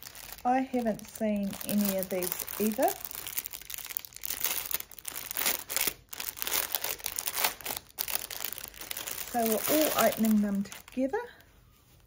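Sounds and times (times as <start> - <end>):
wrapping crinkling and rustling: 0.0 - 12.0.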